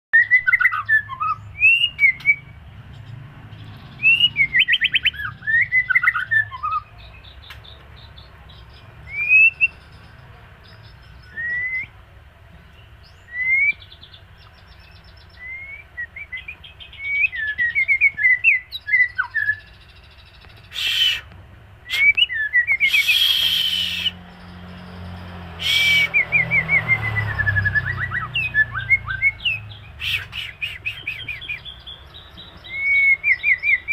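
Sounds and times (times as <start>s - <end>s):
bird whistled song: 0.2s - 12.0s, 12.7s - 33.9s.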